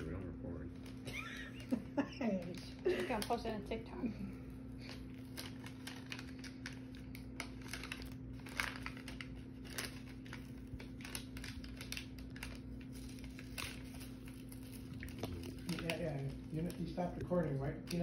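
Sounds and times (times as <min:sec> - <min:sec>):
steady low hum: 0:00.0 - 0:18.0
paper crinkling: 0:00.1 - 0:03.8, 0:04.6 - 0:18.0.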